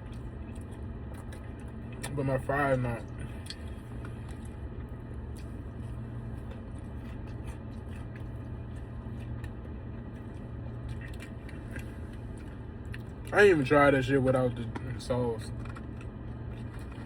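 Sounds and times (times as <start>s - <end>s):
soft mouth clicks and squishes: 0.0s - 2.3s, 3.0s - 13.7s, 14.5s - 17.0s
person chewing food: 0.0s - 13.7s, 14.6s - 17.0s
steady low hum: 0.0s - 17.0s.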